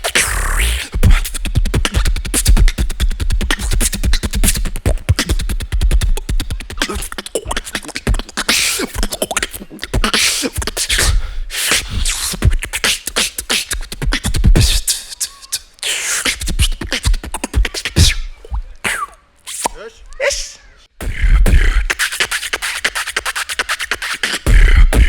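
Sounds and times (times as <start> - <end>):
mouth beatboxing: 0.0 - 25.0.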